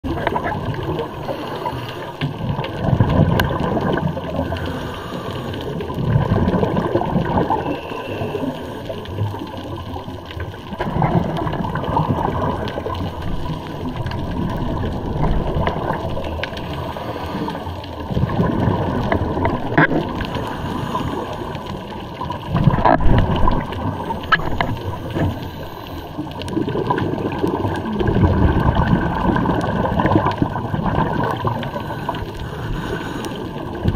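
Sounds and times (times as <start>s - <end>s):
diver bubbles gurgling underwater: 0.0s - 33.9s
water wash: 0.0s - 33.9s.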